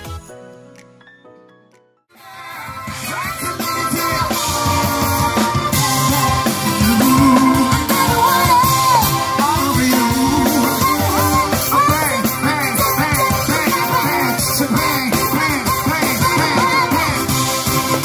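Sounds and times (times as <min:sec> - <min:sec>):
upbeat rock music with singing: 0:02.2 - 0:18.0.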